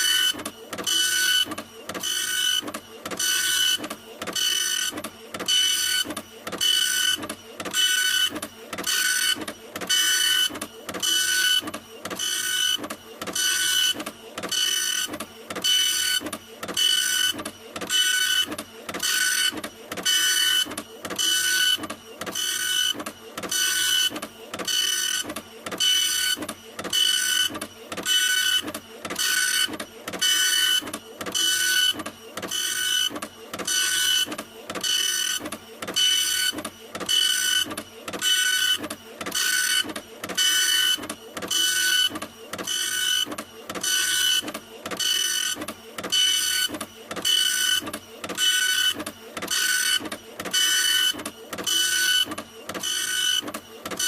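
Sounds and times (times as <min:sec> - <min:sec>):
printer mechanism whining: 0:00.0 - 0:54.0.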